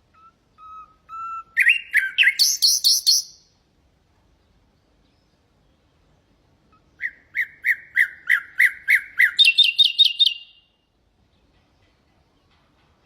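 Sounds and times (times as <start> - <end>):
nightingale singing: 0.0 - 3.6, 4.4 - 12.6.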